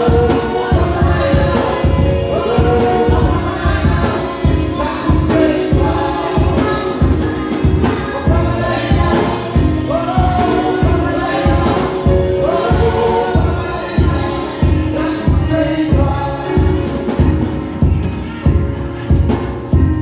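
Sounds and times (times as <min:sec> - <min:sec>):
vocal group singing in harmony: 0:00.0 - 0:19.4
drum kit beat: 0:00.0 - 0:20.0
keyboard: 0:00.0 - 0:20.0.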